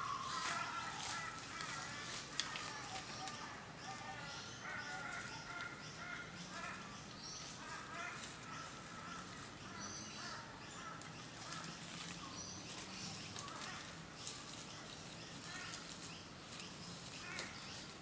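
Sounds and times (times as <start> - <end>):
birds chirping: 0.0 - 18.0
scratching of dry leaf litter: 0.0 - 18.0.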